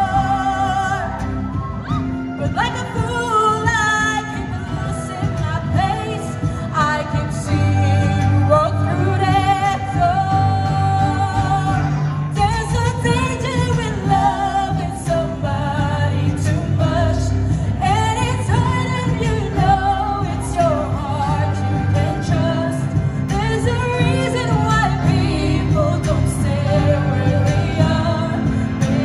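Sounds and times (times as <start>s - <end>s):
song over sound system: 0.0s - 29.0s.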